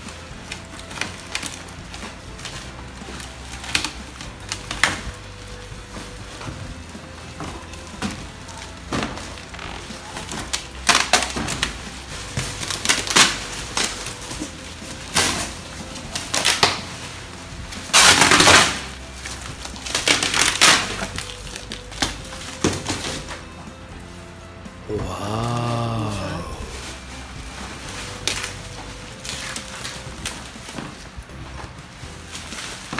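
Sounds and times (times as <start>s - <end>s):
plastic wrap crinkling: 0.0s - 23.5s, 26.7s - 32.9s.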